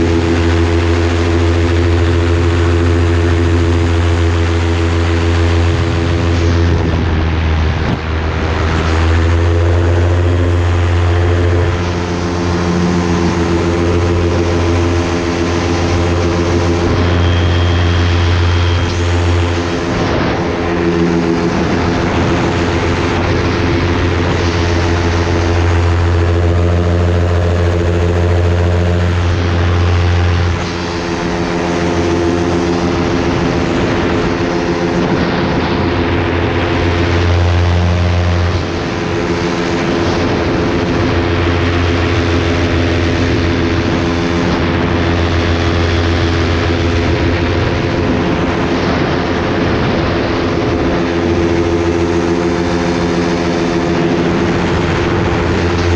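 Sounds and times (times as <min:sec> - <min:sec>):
light aircraft engine humming: 0:00.0 - 0:55.9.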